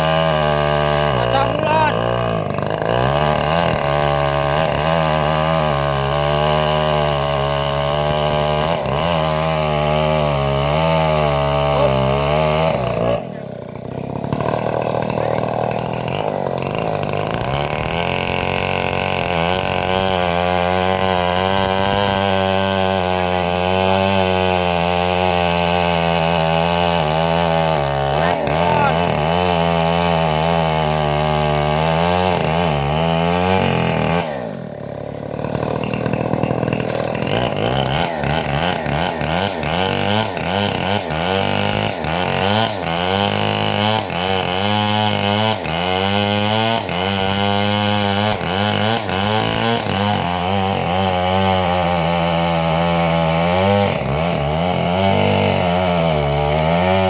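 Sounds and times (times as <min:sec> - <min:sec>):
bandsaw sawmill sawing timber: 0:00.0 - 0:57.0.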